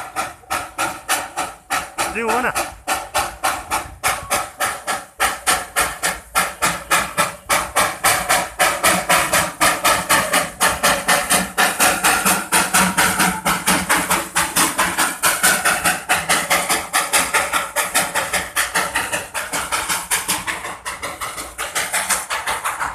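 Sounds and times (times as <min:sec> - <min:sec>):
steam locomotive chuffing: 0:00.0 - 0:22.9.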